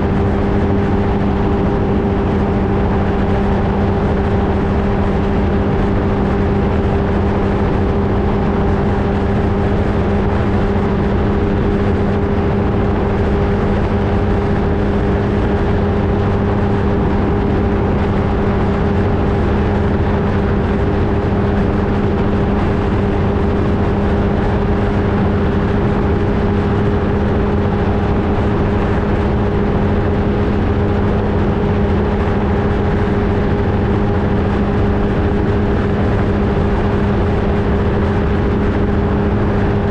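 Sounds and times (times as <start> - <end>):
ultralight engine and propeller: 0.0 - 39.9
wind noise: 0.0 - 39.9.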